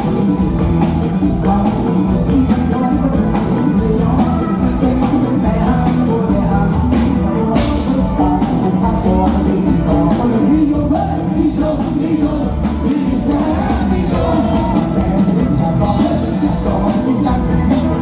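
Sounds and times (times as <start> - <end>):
live band music: 0.0 - 18.0
steady drum beat: 0.0 - 18.0.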